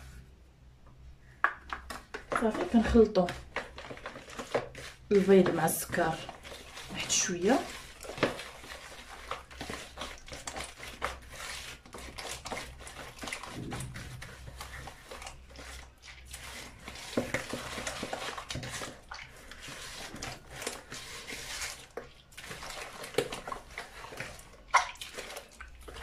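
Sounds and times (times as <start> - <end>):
fingers mixing runny mixture: 1.4 - 26.0.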